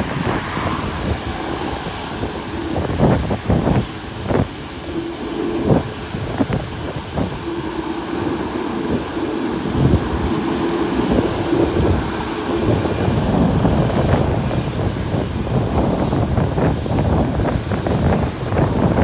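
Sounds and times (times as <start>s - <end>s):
jet engines rumbling: 0.0s - 19.0s
wind buffeting microphone: 0.0s - 19.0s.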